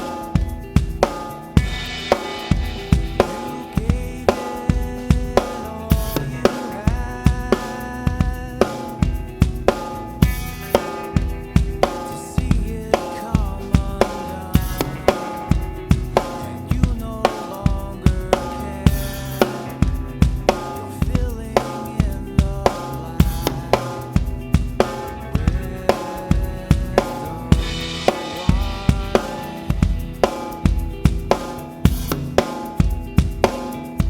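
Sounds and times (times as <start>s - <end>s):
drum kit playing: 0.0s - 34.0s
recorded rock song: 0.0s - 34.0s.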